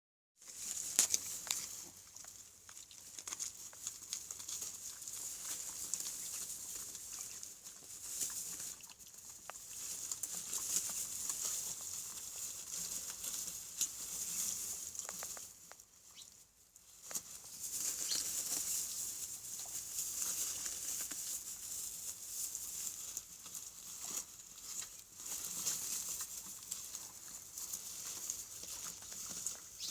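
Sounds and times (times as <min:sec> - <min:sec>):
piglet feet pattering: 0:00.4 - 0:29.9.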